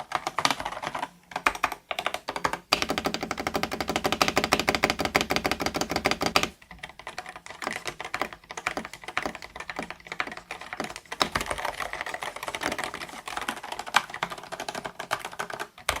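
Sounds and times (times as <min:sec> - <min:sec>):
mechanical keyboard typing: 0:00.0 - 0:16.0.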